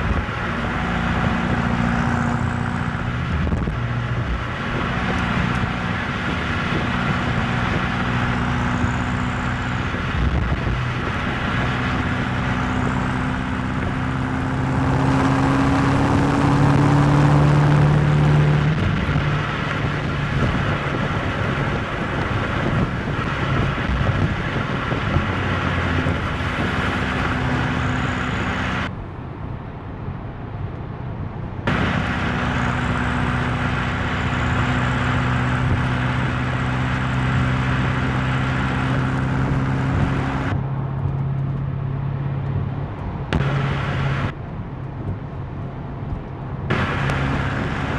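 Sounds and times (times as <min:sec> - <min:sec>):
car engine accelerating: 0:00.0 - 0:47.9
tyre and wind noise: 0:00.0 - 0:47.9.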